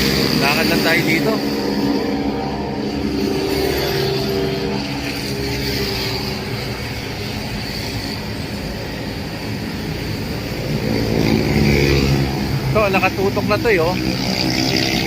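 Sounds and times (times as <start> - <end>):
street traffic passing: 0.0 - 15.0.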